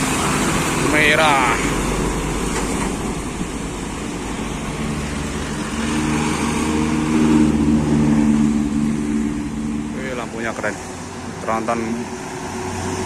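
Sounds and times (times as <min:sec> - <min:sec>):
diesel truck engine: 0:00.0 - 0:13.0
passing road traffic: 0:00.0 - 0:13.0.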